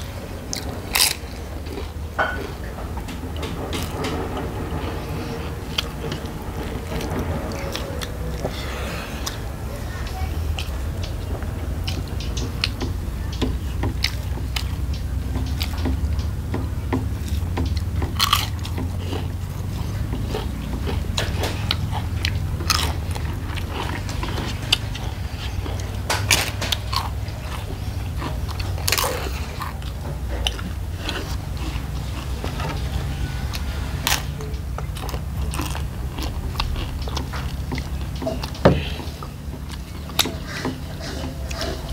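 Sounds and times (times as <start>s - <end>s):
person chewing crisp food: 0.0s - 41.9s
steady low hum: 0.0s - 41.9s.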